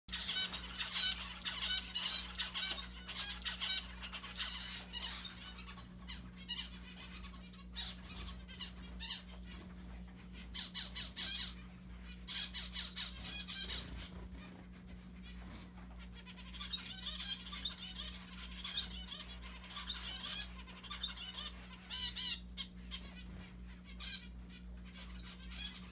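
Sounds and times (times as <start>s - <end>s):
finches calling: 0.1s - 25.9s.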